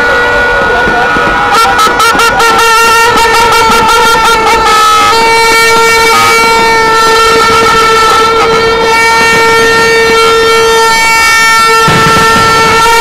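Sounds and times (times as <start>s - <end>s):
crowd horns blowing: 0.0s - 13.0s
plastic horn long loud note: 0.0s - 13.0s.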